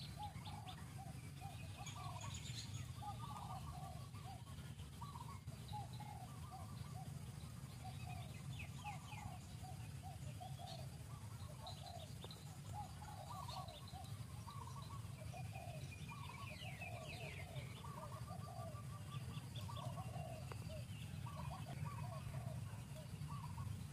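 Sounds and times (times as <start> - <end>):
birds chirping: 0.0 - 23.9
steady low rumble: 0.0 - 23.9.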